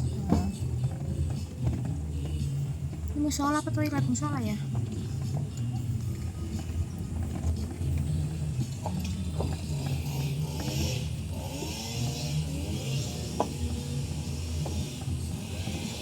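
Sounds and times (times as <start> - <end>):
low uneven rumble: 0.0 - 16.0.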